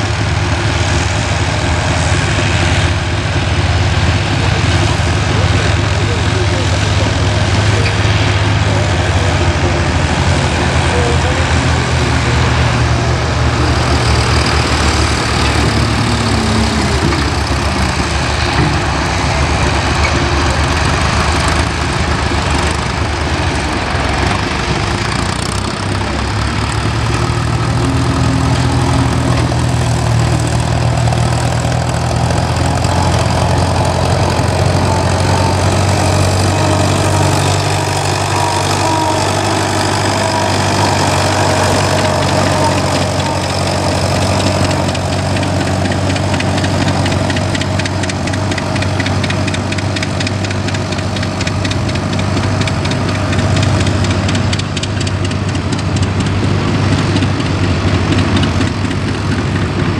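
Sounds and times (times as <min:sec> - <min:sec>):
tractor engines droning: 0:00.0 - 0:59.9.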